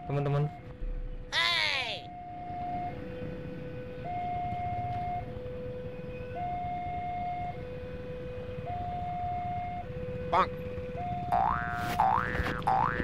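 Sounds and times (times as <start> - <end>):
idling traffic hum: 0.0 - 13.0.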